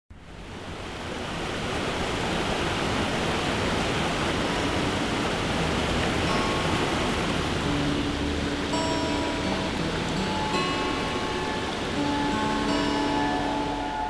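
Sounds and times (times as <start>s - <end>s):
water rushing over rocks: 0.2s - 14.0s.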